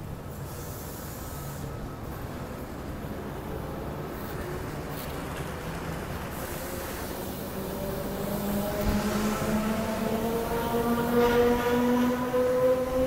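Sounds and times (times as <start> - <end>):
train rolling noise: 0.0 - 13.0.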